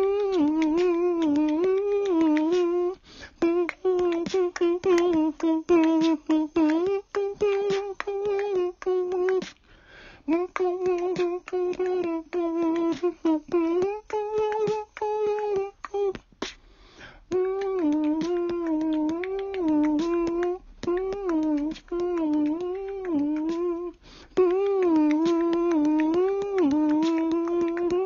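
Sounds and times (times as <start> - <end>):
woman humming: 0.0 - 9.6, 10.3 - 16.2, 17.3 - 28.0.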